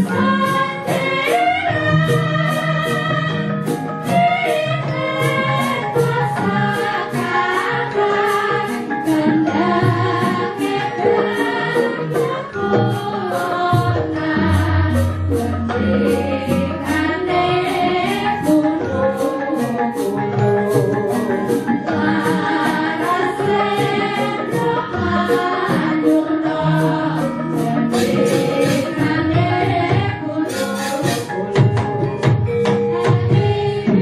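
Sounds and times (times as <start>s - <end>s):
women singing: 0.0s - 20.2s, 21.2s - 31.3s, 32.6s - 34.0s
gamelan music: 0.0s - 34.0s
sharp high percussive strokes: 3.7s - 31.4s.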